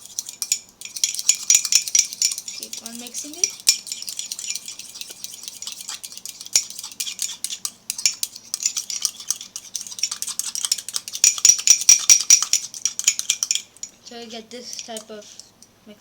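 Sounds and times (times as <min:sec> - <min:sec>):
spoon clinking against mug: 0:00.0 - 0:15.6
spoon stirring and scraping batter: 0:00.0 - 0:15.6.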